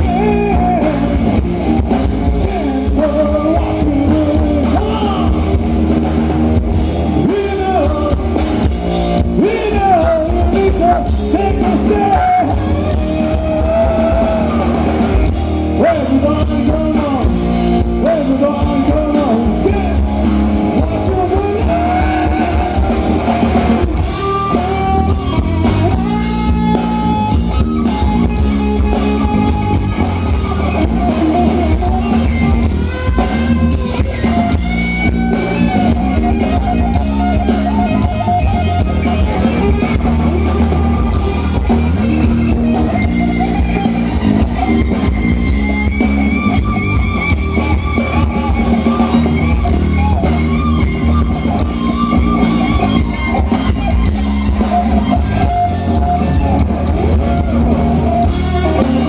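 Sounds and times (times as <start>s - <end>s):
bass: 0.0s - 59.0s
drum kit: 0.0s - 59.0s
electric guitar lead: 0.0s - 59.0s.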